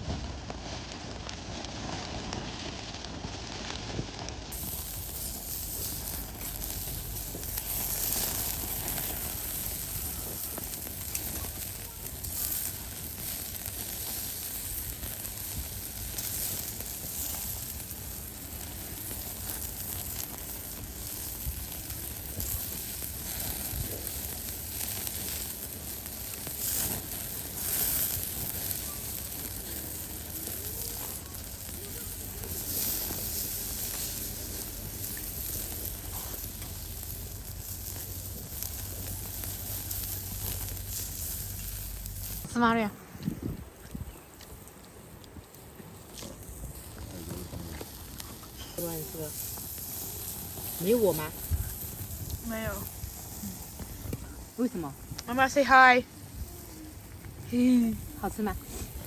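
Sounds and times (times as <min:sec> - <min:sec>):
food sizzling on a grill: 0:00.0 - 0:59.0.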